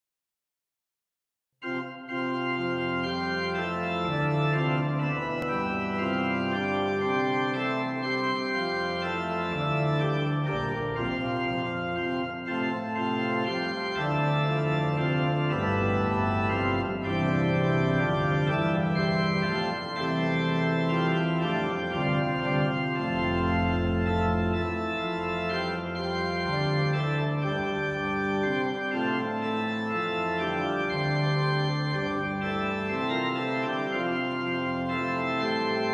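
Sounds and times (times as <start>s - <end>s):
pipe organ music: 1.6s - 35.9s.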